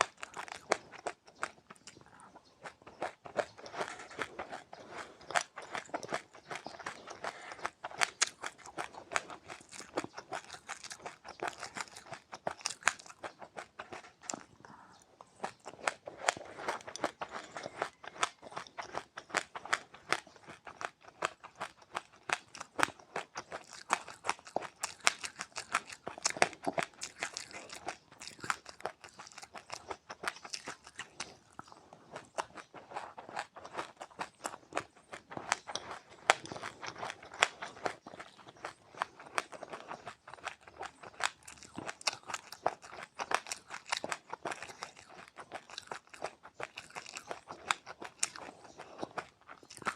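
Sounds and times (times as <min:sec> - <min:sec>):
person chewing crunchy seeds: 0:00.0 - 0:49.9.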